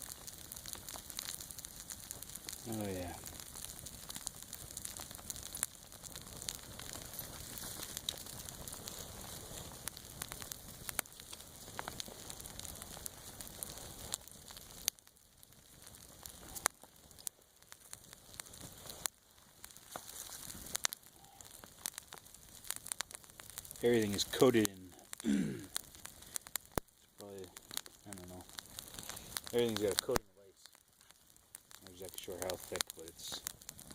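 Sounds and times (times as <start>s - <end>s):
campfire crackling: 0.0s - 33.9s
freezing rain hiss: 0.0s - 33.9s.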